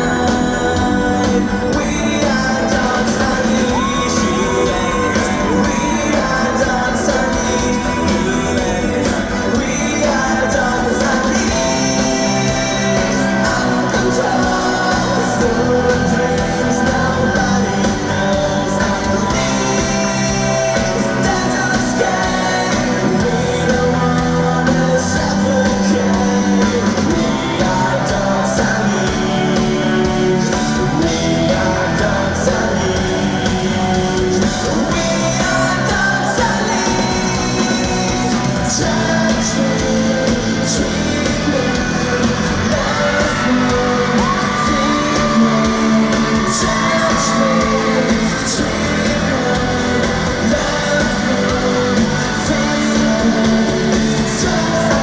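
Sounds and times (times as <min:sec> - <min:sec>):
man singing: 0:00.0 - 0:55.0
rock band playing live: 0:00.0 - 0:55.0.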